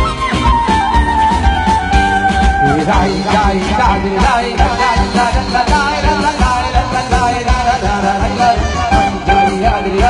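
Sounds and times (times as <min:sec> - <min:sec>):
live band music with singing: 0:00.0 - 0:10.0.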